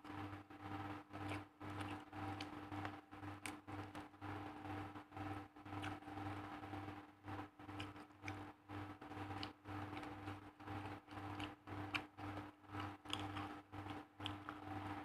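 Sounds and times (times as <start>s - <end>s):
chewing leaves and rice: 0.0s - 4.2s, 5.2s - 15.0s.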